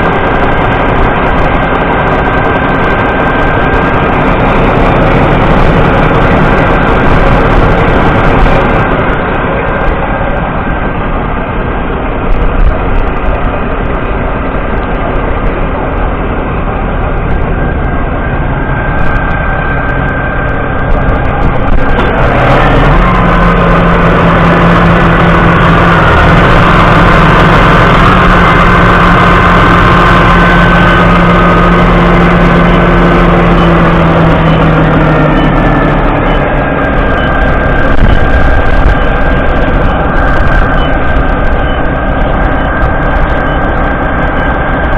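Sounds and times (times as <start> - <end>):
machine whine: 0.0 - 44.9
tractor diesel engine drone: 0.0 - 44.9.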